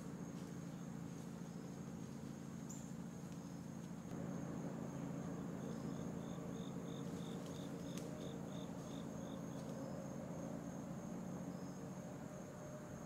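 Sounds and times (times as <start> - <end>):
insect chirping: 0.0 - 13.0
insects high-pitched drone: 0.0 - 13.0.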